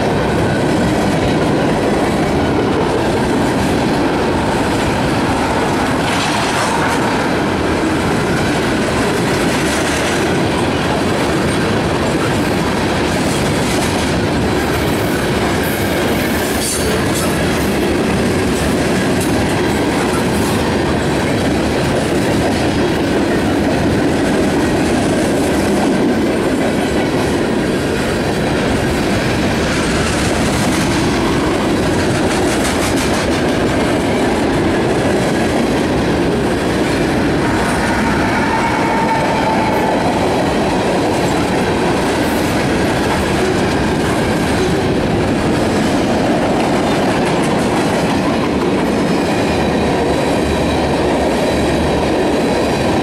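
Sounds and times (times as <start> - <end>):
steel wheels running on rails: 0.0 - 53.0.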